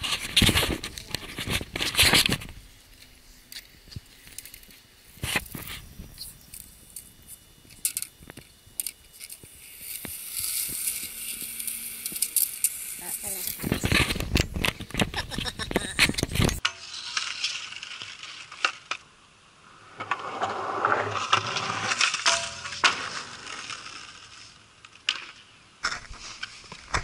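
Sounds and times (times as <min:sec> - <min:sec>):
skateboard wheels rolling on concrete: 0:00.0 - 0:27.0.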